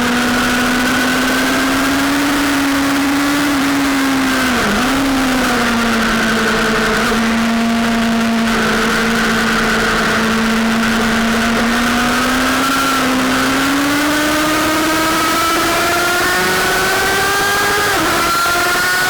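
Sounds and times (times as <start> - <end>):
sportbike engine at high revs: 0.0 - 19.0.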